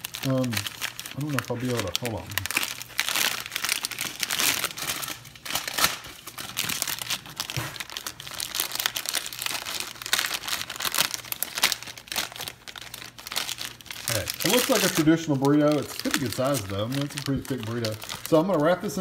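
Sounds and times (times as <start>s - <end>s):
plastic wrapper crinkling: 0.0s - 19.0s.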